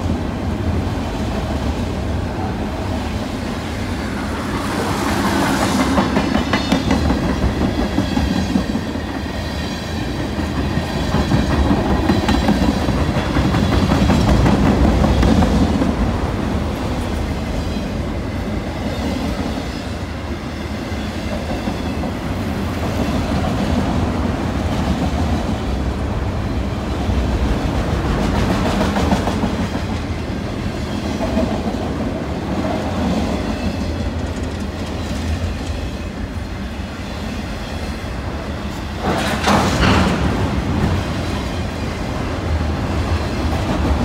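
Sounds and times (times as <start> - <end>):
freight train rumbling: 0.0 - 44.0.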